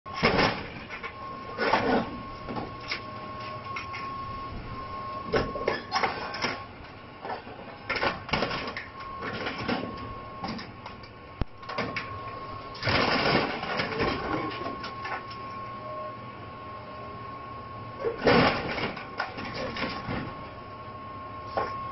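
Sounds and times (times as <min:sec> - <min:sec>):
steady thin whine: 0:00.1 - 0:21.9.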